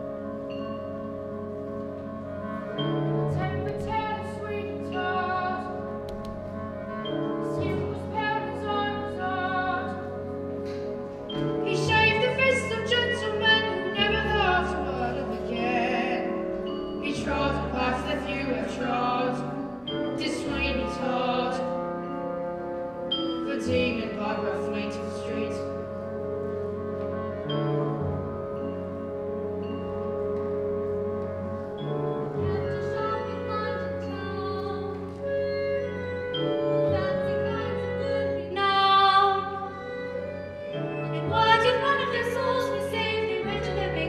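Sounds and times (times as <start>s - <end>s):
instrumental accompaniment: 0.0s - 44.0s.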